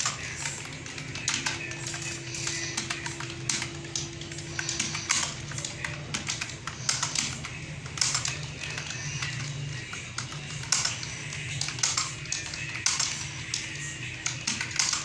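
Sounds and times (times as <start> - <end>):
computer keyboard typing: 0.0 - 15.0.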